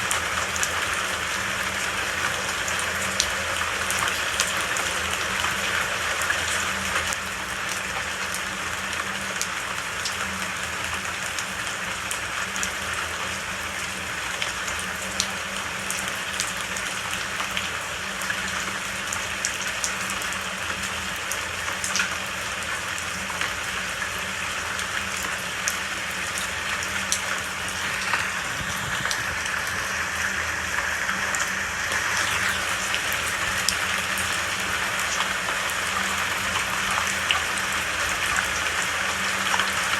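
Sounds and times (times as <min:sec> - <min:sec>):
raindrops pattering: 0:00.0 - 0:39.9
steady rain hiss: 0:00.0 - 0:39.9.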